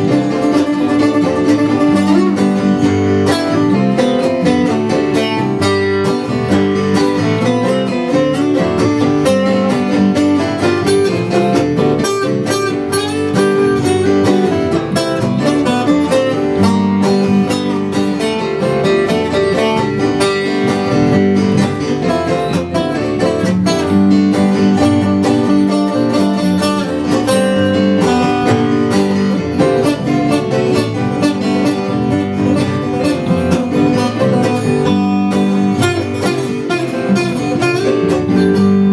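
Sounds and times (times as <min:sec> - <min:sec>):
acoustic guitar bluegrass music: 0:00.0 - 0:38.9.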